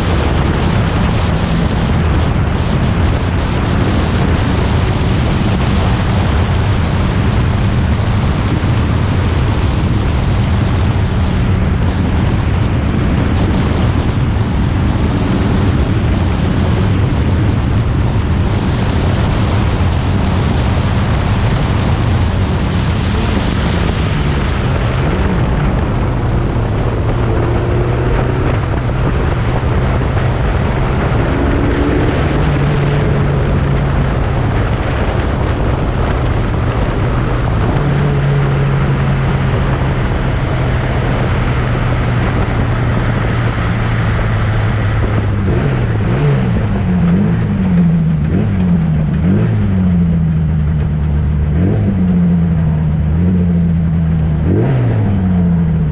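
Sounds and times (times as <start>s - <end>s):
racing car engines revving: 0.0s - 55.9s.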